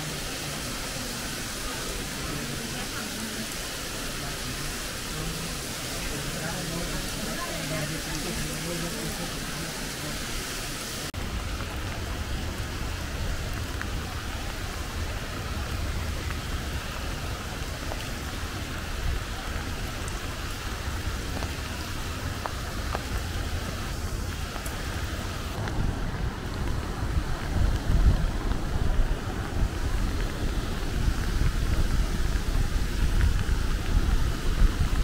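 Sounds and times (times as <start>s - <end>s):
steady rain: 0.0s - 35.0s.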